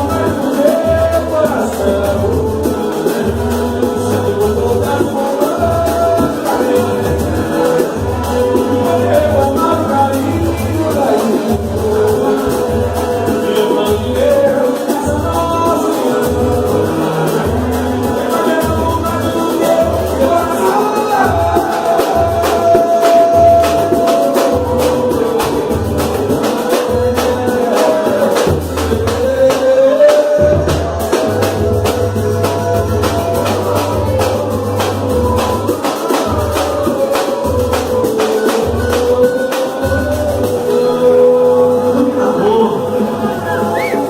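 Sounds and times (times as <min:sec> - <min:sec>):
person singing melody: 0:00.0 - 0:44.0
quick percussion strokes: 0:00.0 - 0:44.0.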